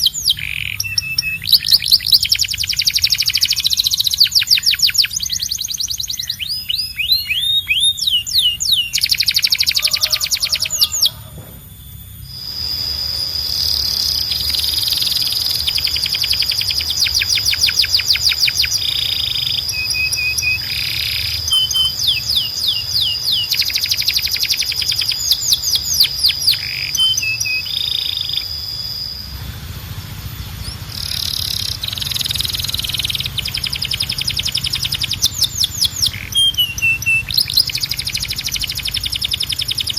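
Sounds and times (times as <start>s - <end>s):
canary singing trills: 0.0s - 39.9s
long high whistle: 0.4s - 39.9s.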